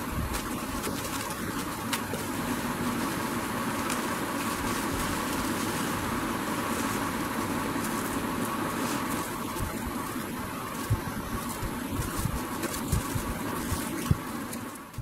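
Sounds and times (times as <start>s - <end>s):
bubble wrap and plastic bag crinkling: 0.0s - 15.0s
faint crackles: 0.0s - 15.0s
steady background hum: 0.0s - 15.0s.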